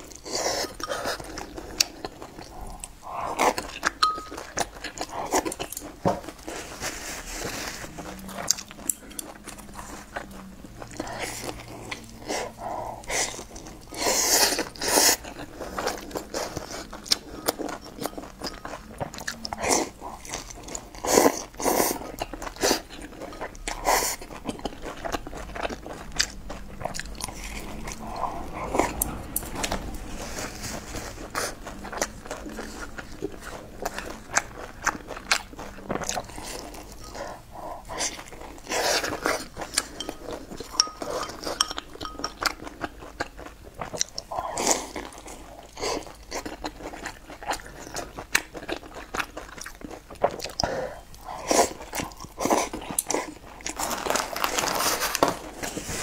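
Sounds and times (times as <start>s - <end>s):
biting and chewing: 0.0s - 56.0s.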